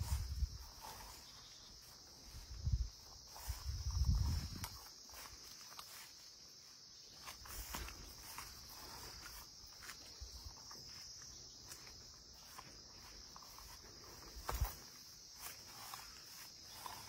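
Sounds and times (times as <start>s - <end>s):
crickets trilling: 0.0s - 17.0s
soft footsteps: 0.0s - 17.0s.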